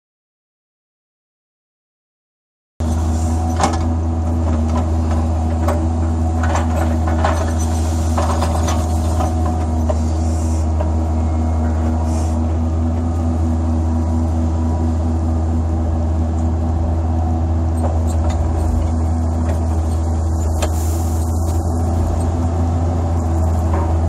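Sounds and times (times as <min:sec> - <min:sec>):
excavator engine and hydraulics: 0:02.8 - 0:24.0.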